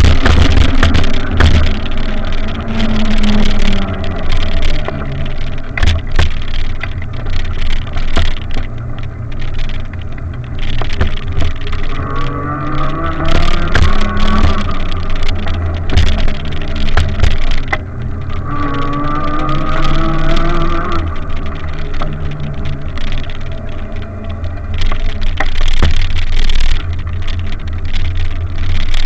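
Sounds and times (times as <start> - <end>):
motor hum: 0.0 - 29.0.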